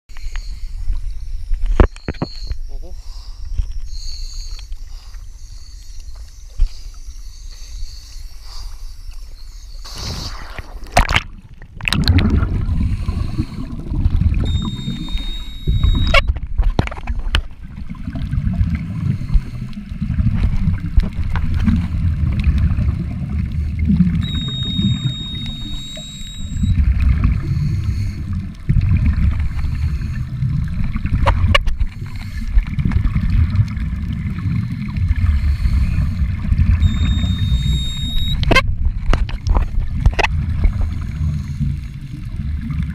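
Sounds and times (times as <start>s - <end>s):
sea water sloshing and splashing: 3.4s - 42.9s
underwater regulator bubbles gurgling: 3.8s - 42.9s.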